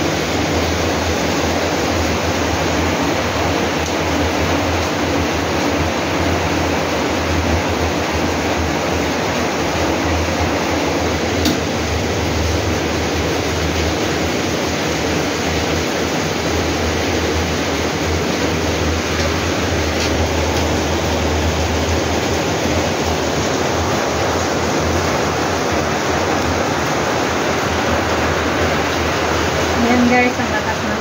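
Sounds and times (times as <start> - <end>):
rain pouring: 0.0 - 31.0.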